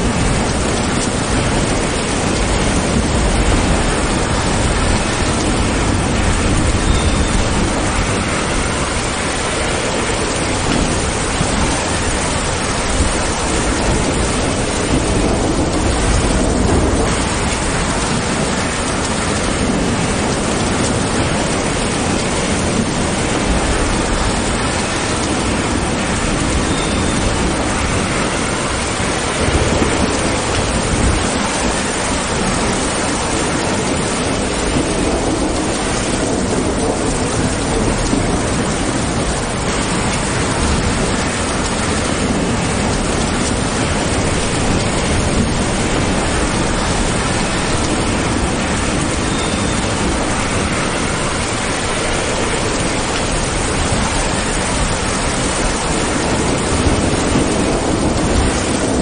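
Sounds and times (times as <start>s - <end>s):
low thunder rumbling: 0.0s - 59.0s
rain falling through trees: 0.0s - 59.0s.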